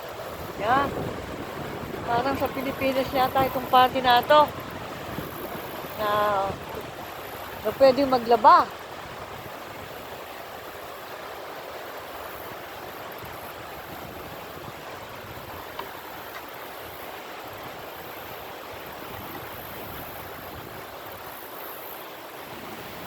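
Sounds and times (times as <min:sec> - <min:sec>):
wind buffeting microphone: 0:00.0 - 0:21.5
river water flowing: 0:00.0 - 0:23.0.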